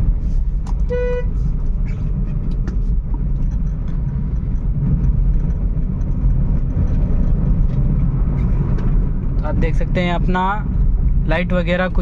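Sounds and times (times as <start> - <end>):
car engine driving: 0.0 - 12.0
road rumble: 0.0 - 12.0.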